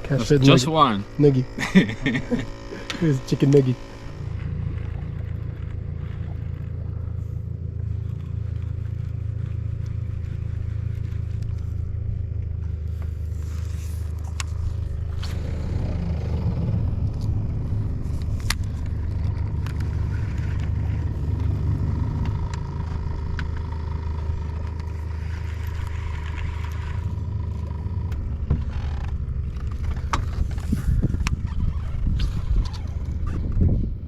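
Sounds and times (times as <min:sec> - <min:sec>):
outboard motor droning: 0:00.0 - 0:34.0.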